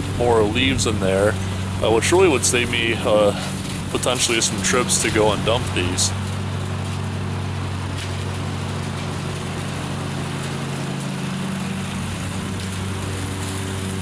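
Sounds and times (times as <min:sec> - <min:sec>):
noisy rush of mowing: 0:00.0 - 0:14.0
riding mower engine drone: 0:00.0 - 0:14.0.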